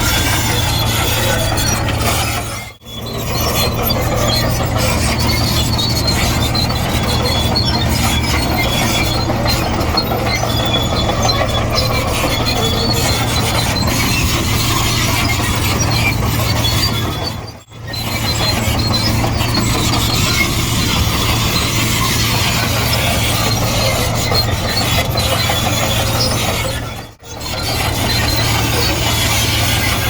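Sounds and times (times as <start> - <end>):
bulldozer diesel engine drone: 0.0 - 30.0
steel tracks squealing and clanking: 0.0 - 30.0.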